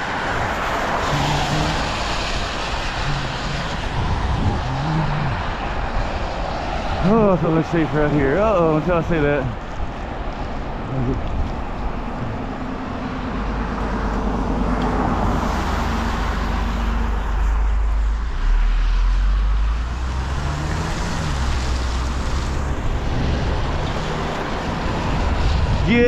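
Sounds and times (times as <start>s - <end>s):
tyres hissing on wet road: 0.0s - 10.9s, 14.6s - 26.0s
car engine rumble: 0.0s - 26.0s.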